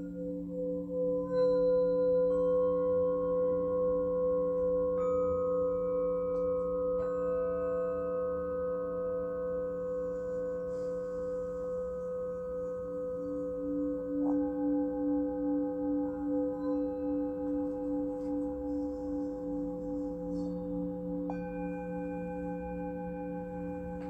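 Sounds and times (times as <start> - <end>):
singing bowls ringing: 0.0 - 24.0.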